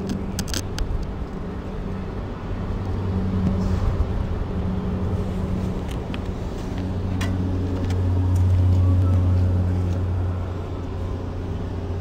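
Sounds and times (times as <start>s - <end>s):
heavy equipment engine running: 0.0s - 12.0s.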